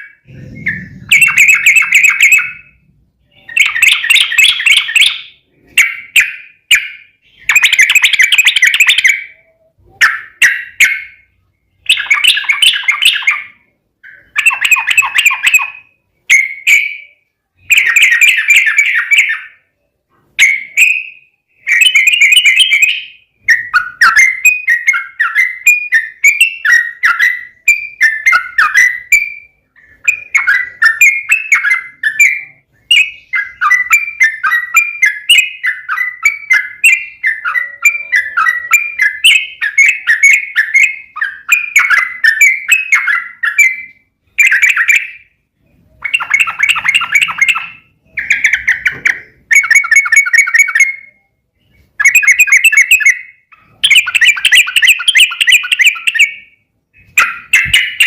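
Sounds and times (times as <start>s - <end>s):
bird singing bubbling chirps: 0.0s - 58.0s.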